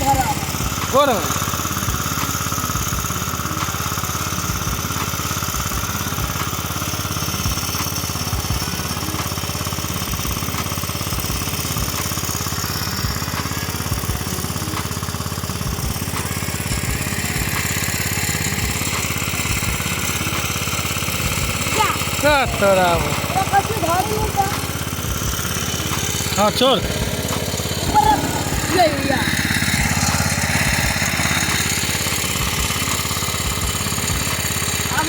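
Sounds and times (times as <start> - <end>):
pump engine running steadily: 0.0 - 35.0.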